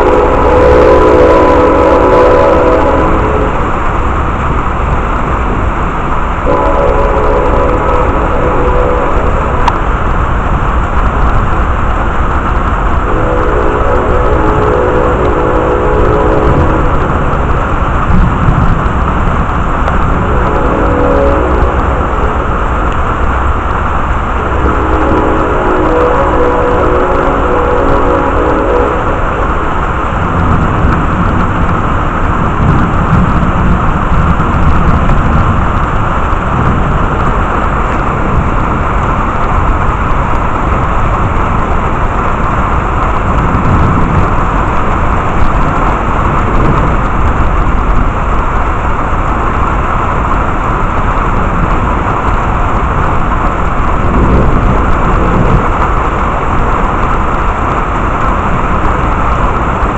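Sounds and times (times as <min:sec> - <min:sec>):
heavy rain pouring: 0:00.0 - 0:59.9
thunder rumbling: 0:00.0 - 0:59.9.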